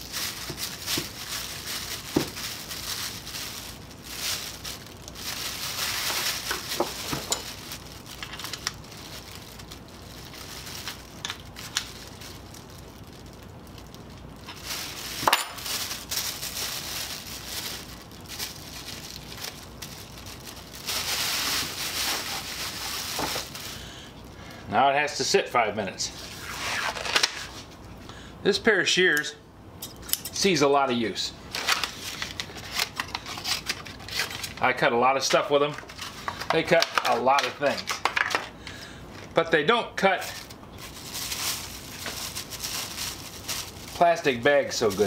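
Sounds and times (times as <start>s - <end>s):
plastic bag crinkling: 0.0s - 24.0s, 31.5s - 45.0s.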